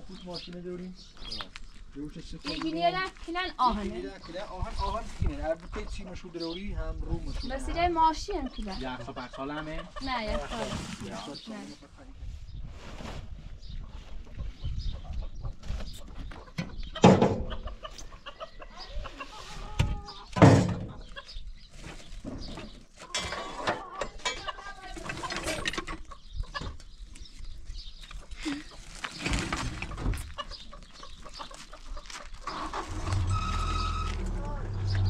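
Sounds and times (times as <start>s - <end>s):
chickens clucking: 2.4s - 12.2s, 13.4s - 35.0s.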